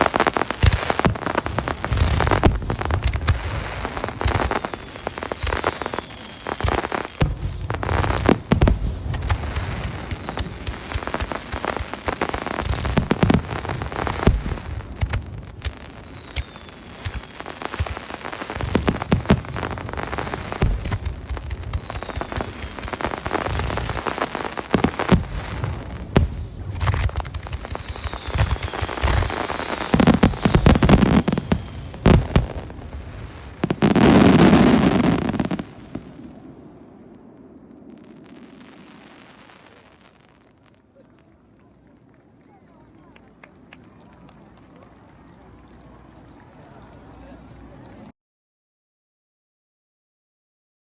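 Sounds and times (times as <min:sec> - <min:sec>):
falling firework whistles: 0:00.0 - 0:48.1.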